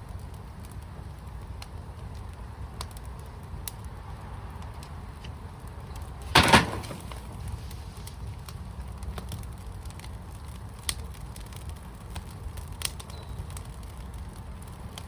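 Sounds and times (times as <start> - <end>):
faint fire crackles: 0.0 - 15.0
fire pit rumbling: 0.0 - 15.0.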